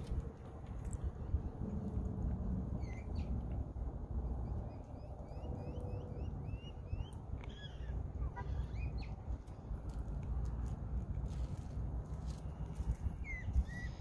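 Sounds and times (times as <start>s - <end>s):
wind rumbling on microphone: 0.0s - 5.7s, 6.5s - 14.0s.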